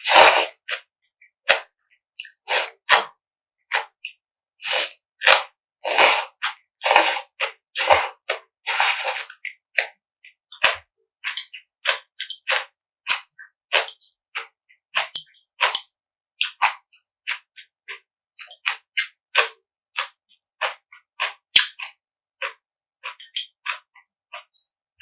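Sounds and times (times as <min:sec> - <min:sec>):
chewing crunchy food: 0:00.0 - 0:00.9, 0:01.5 - 0:03.1, 0:03.7 - 0:09.9, 0:10.5 - 0:24.5.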